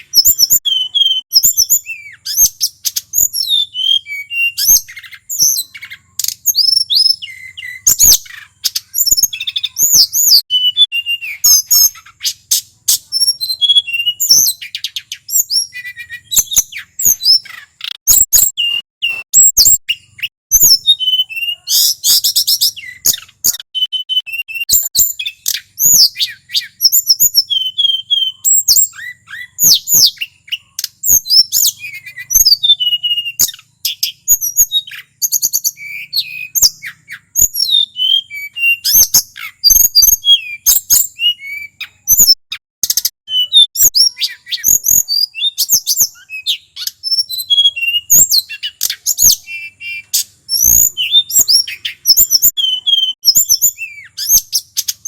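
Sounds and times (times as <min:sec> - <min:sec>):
bird singing whistles and trills: 0:00.0 - 0:55.0.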